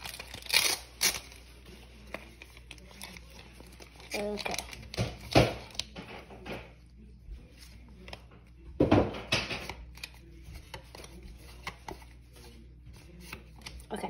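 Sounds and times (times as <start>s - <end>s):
cards and foil pack rustling: 0.0s - 8.6s, 9.4s - 14.0s.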